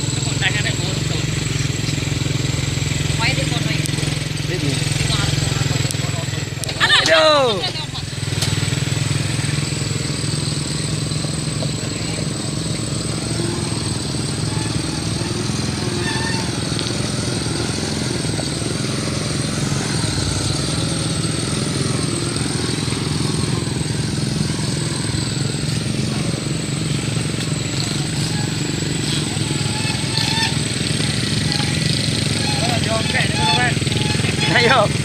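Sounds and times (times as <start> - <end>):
motor running: 0.0 - 35.0.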